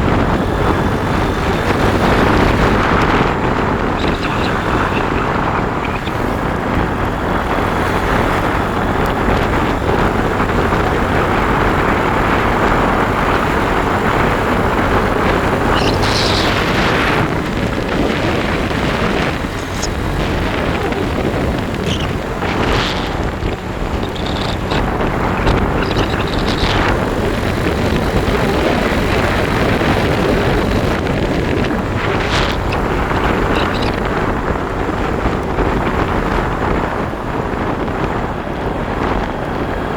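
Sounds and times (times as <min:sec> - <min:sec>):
motorbike engine: 0:00.0 - 0:39.9
rushing wind: 0:00.0 - 0:39.9.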